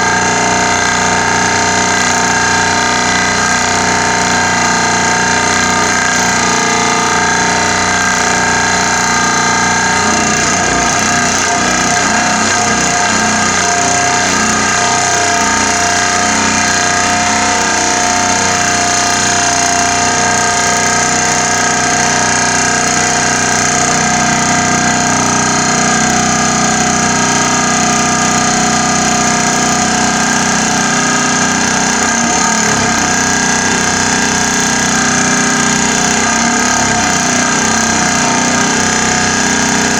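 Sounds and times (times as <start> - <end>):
pile driver droning: 0.0 - 39.9.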